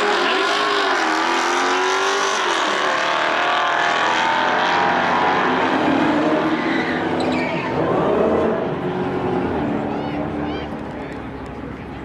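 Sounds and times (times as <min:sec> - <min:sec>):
drag car engines at high revs: 0:00.0 - 0:10.4.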